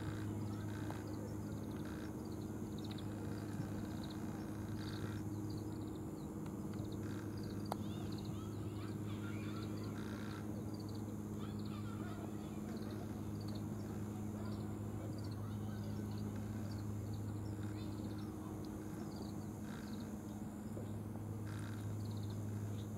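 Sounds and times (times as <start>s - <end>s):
small birds chirping: 0.0s - 22.9s
steady low hum: 0.0s - 22.9s.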